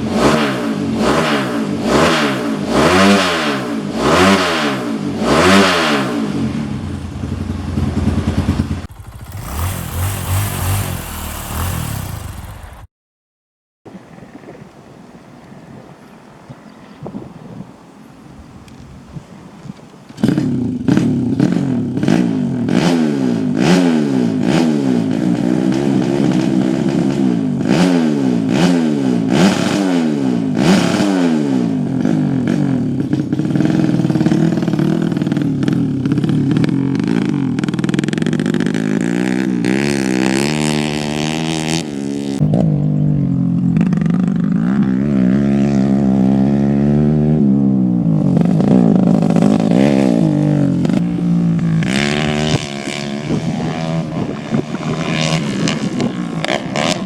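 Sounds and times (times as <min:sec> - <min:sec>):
off-road motorcycle engine revving: 0:00.0 - 0:12.9, 0:20.1 - 0:57.0.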